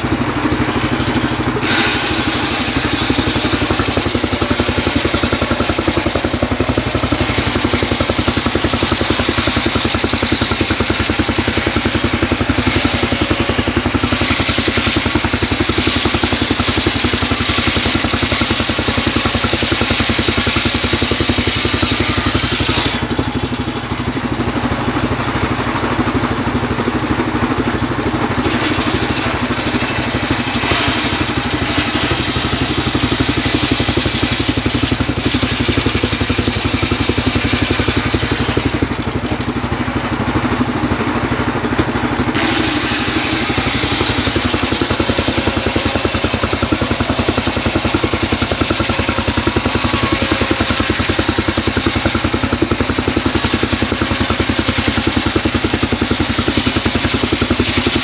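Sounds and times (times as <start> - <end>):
saw blade cutting through wood: 0.0 - 23.6, 28.4 - 39.7, 42.2 - 58.0
engine running under load: 0.0 - 58.0.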